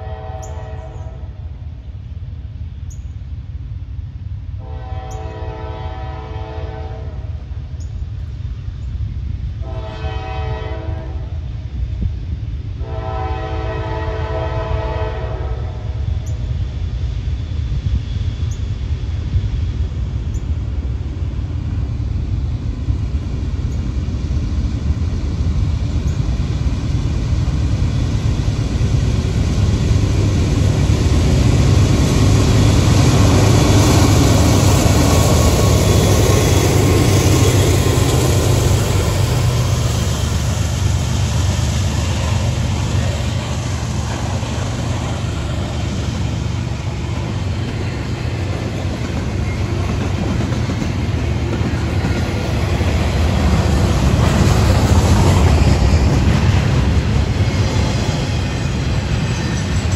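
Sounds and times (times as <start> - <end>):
diesel locomotive engine rumble: 0.0 - 59.9
train cars rolling on rails: 11.6 - 59.9.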